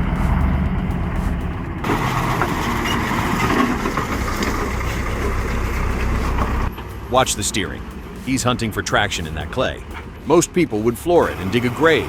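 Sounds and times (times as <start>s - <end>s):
heavy vehicle engine running: 0.0s - 12.0s
truck engine straining for traction: 0.0s - 12.0s.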